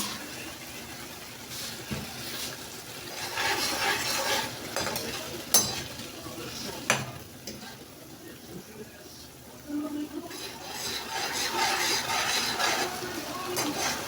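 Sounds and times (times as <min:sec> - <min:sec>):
sauce frying in a pot: 0:00.0 - 0:14.0.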